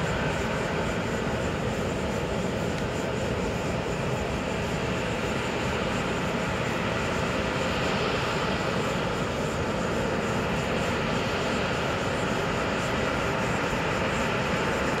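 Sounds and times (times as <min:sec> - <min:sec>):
faint high engine whine: 0:00.0 - 0:15.0
jet engines running: 0:00.0 - 0:15.0.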